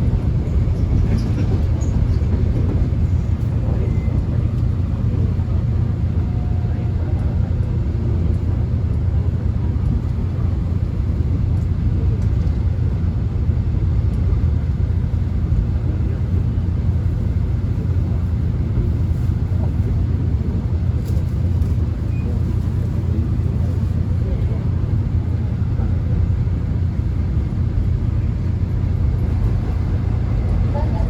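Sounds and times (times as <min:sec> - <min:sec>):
subway train rumbling: 0:00.0 - 0:31.0.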